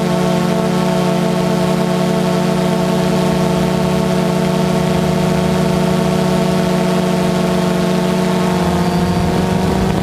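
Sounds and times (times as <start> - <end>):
drone motors humming: 0.0 - 10.0.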